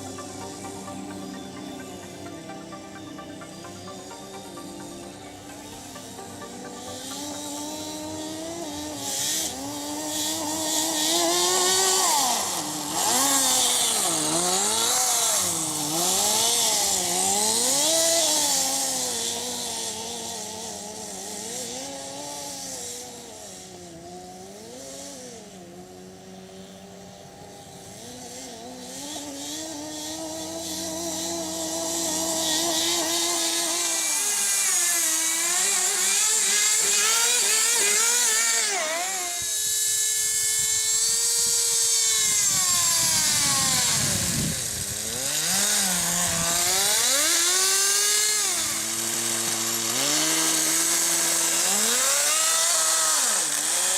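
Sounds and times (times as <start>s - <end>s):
model nitro engine revving: 0.0s - 53.9s.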